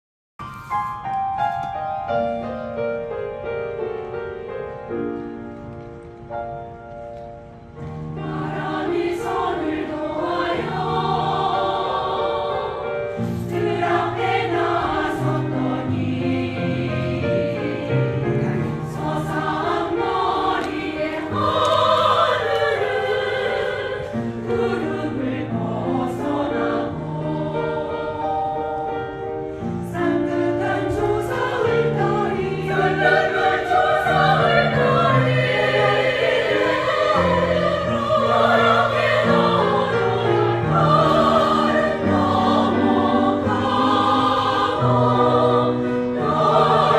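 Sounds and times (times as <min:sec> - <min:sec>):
choir singing with accompaniment: 0:07.8 - 0:46.9.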